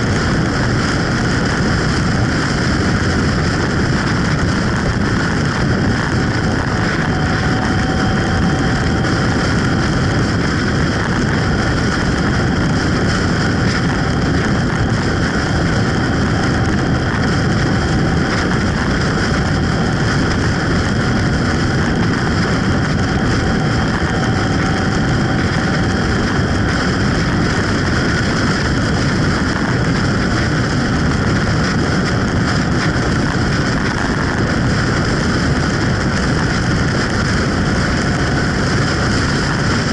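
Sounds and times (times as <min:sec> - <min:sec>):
motorcycle cruising with wind noise: 0:00.0 - 0:39.9.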